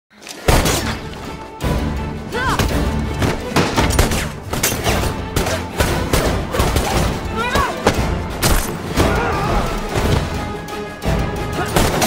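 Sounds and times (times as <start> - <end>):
film music: 0.1 - 12.0.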